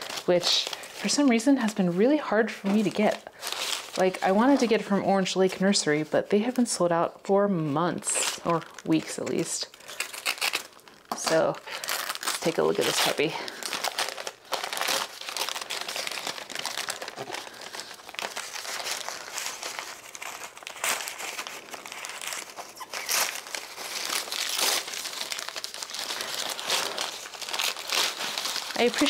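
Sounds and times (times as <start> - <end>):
packing paper crinkling: 0.0 - 5.4, 8.0 - 29.0.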